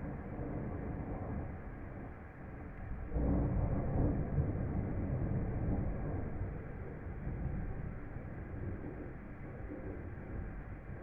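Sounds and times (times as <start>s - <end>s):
thunderstorm low rumble: 0.0s - 11.0s.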